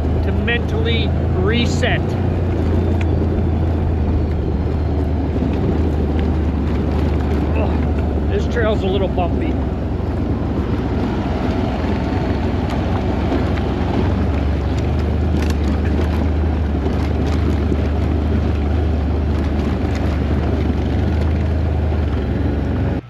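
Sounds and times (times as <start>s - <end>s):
atv engine droning: 0.0s - 23.0s
wind buffeting microphone: 0.0s - 23.0s.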